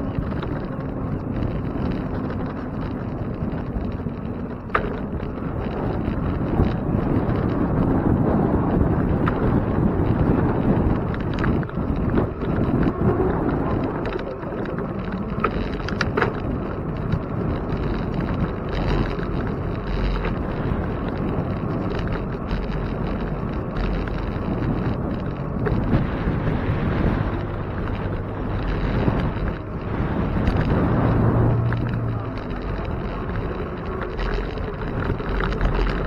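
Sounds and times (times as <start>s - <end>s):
tyres rolling on pavement: 0.0s - 36.0s
wind buffeting microphone: 0.0s - 36.0s.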